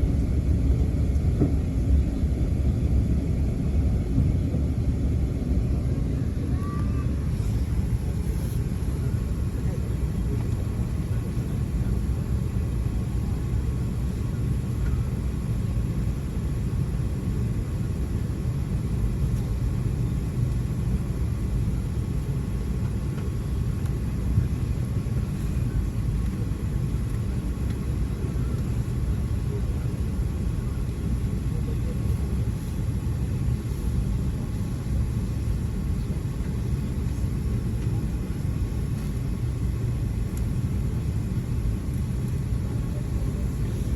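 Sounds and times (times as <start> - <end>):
airplane engines rumbling: 0.0 - 43.9.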